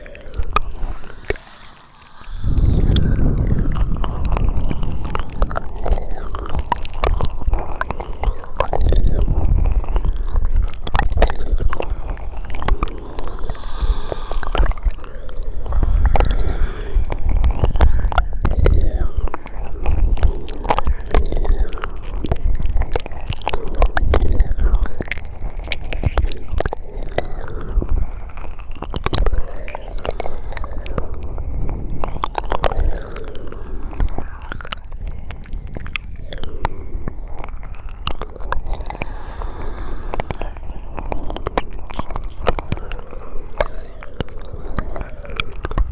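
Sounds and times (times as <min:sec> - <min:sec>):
wet mouth clicks and smacks: 0:00.0 - 0:45.9.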